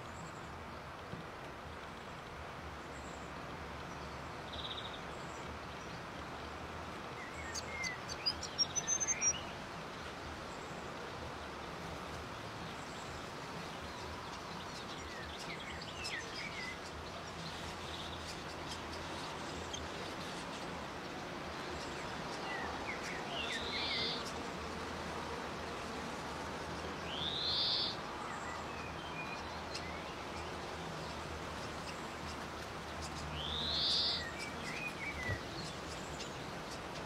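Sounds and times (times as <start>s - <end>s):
background hiss: 0.0s - 37.0s
birds chirping: 2.8s - 37.0s.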